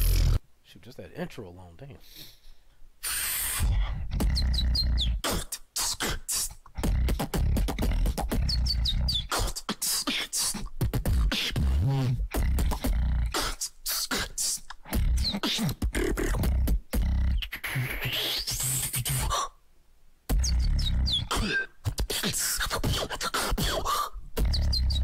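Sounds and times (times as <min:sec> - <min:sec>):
person beatboxing: 0:00.0 - 0:00.4, 0:03.0 - 0:19.6, 0:20.3 - 0:25.0.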